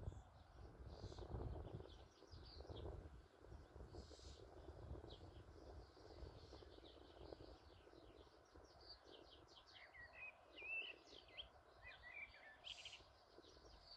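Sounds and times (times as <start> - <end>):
birds chirping and twittering: 0.0 - 13.9
wind rumble on microphone: 0.0 - 13.9.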